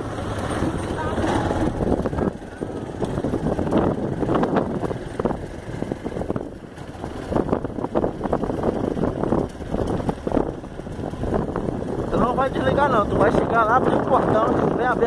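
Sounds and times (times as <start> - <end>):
motorcycle running: 0.0 - 15.0
wind buffeting microphone: 0.0 - 15.0.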